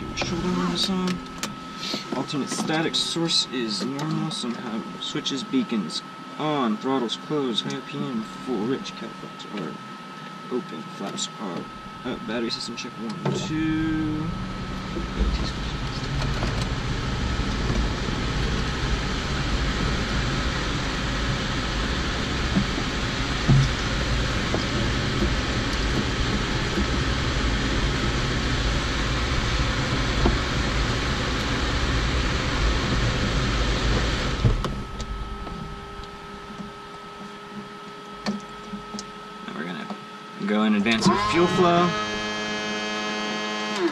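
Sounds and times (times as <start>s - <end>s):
electrical equipment whirring: 0.0s - 43.9s
electrical hum with high whine: 0.0s - 43.9s.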